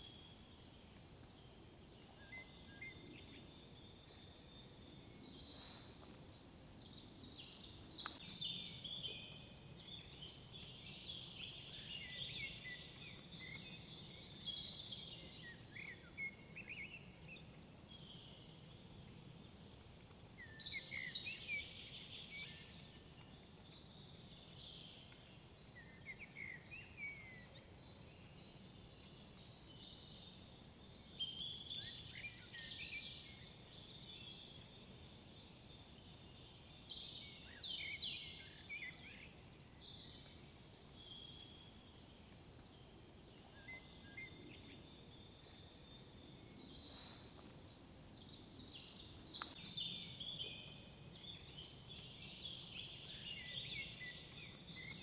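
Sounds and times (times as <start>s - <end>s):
songbirds chirping and warbling: 0.0s - 55.0s.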